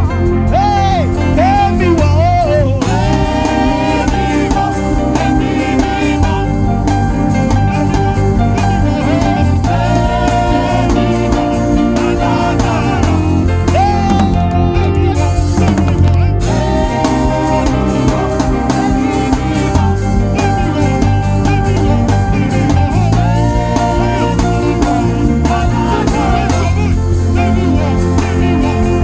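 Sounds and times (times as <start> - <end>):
worship band music: 0.0 - 29.0.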